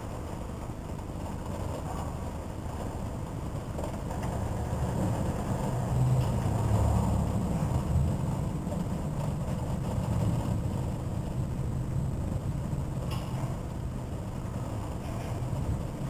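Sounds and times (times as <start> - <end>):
thunderstorm rumbling: 0.0 - 16.0.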